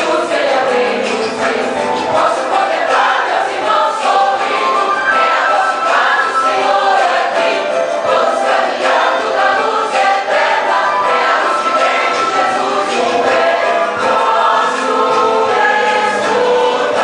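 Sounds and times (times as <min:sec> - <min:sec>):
choir singing praise song: 0:00.0 - 0:17.0.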